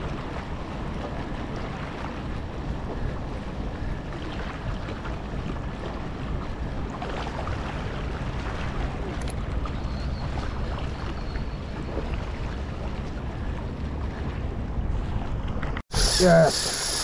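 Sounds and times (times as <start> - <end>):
wind buffeting microphone: 0.0 - 15.8
water lapping against boat: 0.0 - 17.0.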